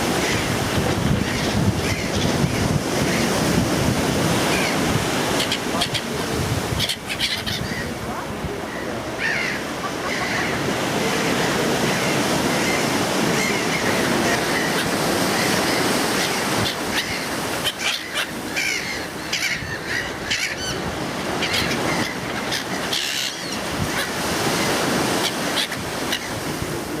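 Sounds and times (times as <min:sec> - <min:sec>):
gulls calling: 0:00.0 - 0:27.0
surf washing on shore: 0:00.0 - 0:27.0.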